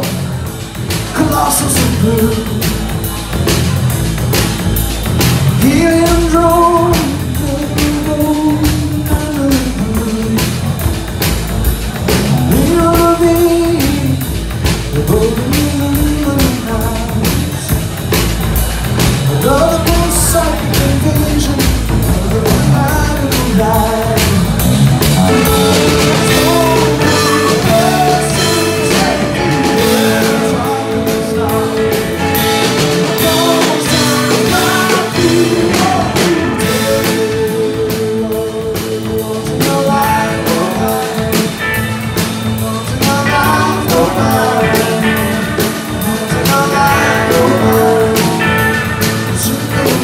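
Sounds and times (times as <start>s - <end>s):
drum kit: 0.0s - 50.0s
electric guitars: 0.0s - 50.0s.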